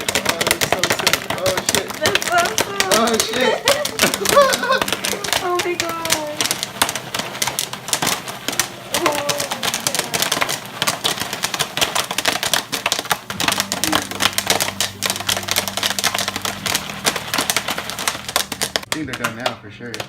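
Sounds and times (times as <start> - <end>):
popcorn popping: 0.0 - 20.0.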